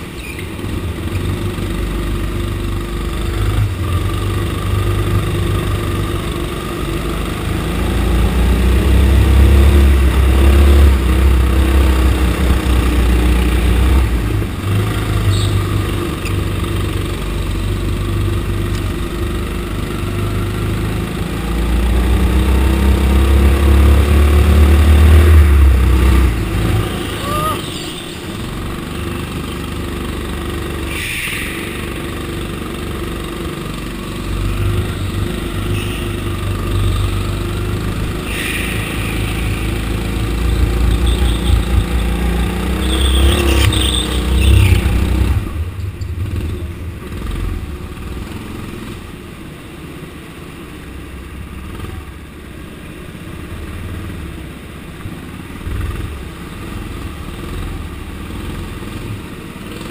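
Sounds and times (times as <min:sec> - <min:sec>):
go-kart engine revving: 0:00.0 - 0:49.4, 0:55.2 - 0:59.9.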